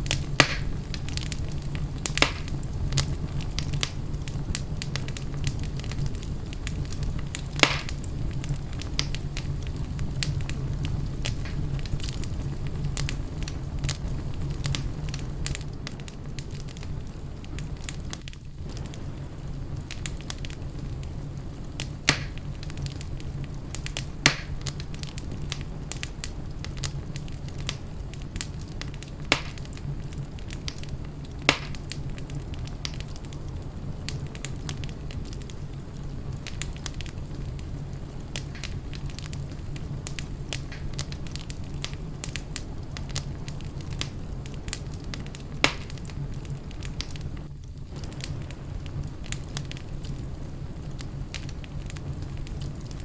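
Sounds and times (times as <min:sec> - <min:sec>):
fire pops: 0:00.0 - 0:53.0
wood fire crackling: 0:00.0 - 0:53.0.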